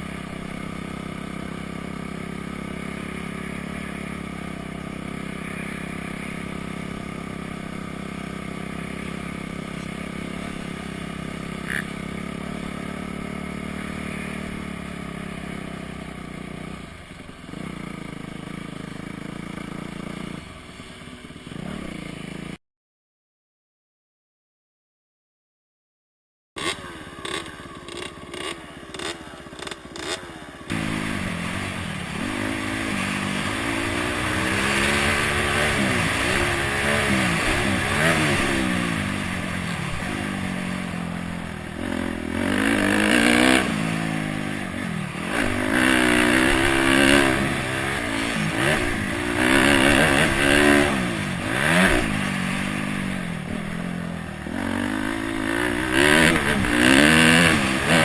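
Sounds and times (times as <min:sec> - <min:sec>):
dirt bike engine revving: 0:00.0 - 0:22.6, 0:26.6 - 0:58.0.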